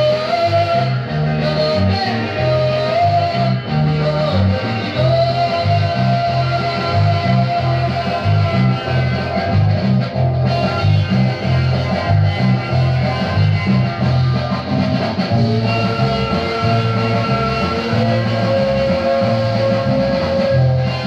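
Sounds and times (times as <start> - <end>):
bass line: 0.0 - 21.0
garage rock guitar: 0.0 - 21.0.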